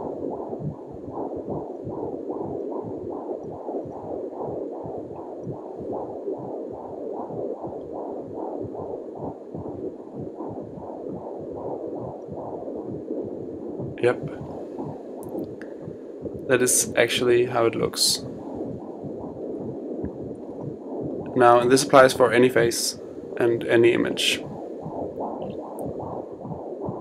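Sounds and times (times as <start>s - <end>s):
heartbeat whooshing pulses: 0.0s - 27.0s.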